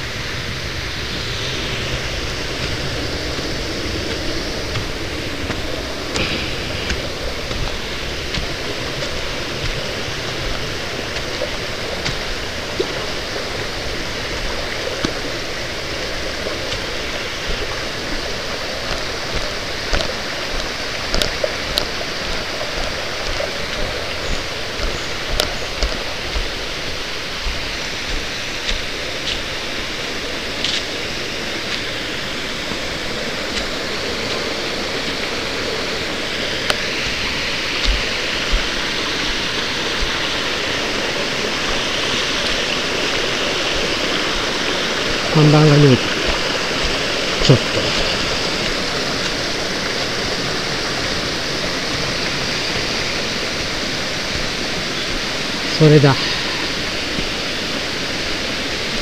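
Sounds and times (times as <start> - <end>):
footsteps on leaf-covered trail: 0.0 - 59.0
mountain stream rushing: 0.0 - 59.0.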